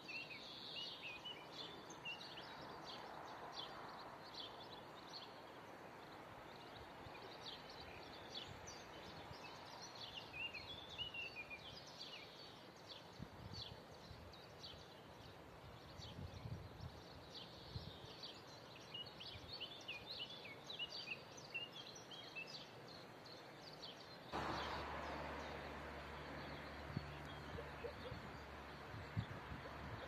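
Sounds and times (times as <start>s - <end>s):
songbirds chirping: 0.0s - 30.0s.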